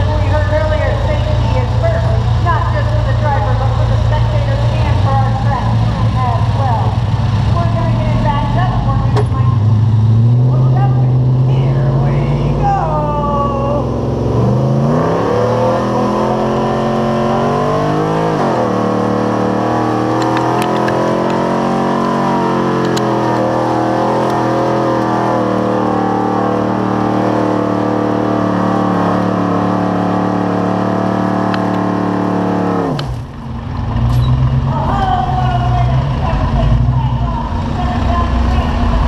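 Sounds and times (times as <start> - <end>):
truck engine at full throttle: 0.0 - 39.0.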